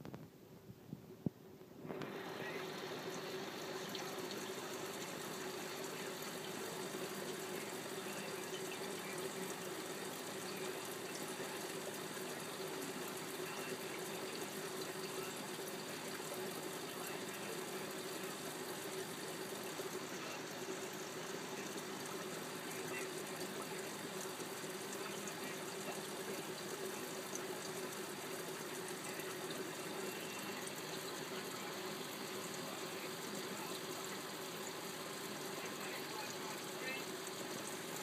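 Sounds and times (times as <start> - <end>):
aquarium filter pump running: 1.8 - 38.0.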